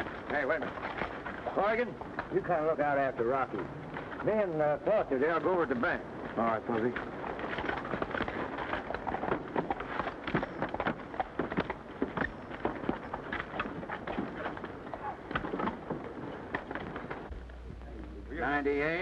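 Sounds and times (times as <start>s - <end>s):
footsteps on wooden boardwalk: 0.0s - 18.0s
film soundtrack hiss: 0.0s - 19.0s.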